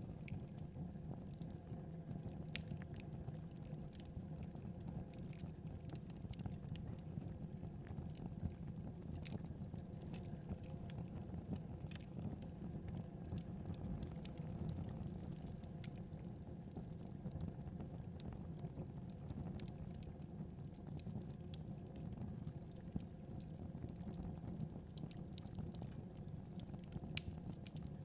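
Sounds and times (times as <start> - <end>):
wood fire crackling and popping: 0.2 - 28.0.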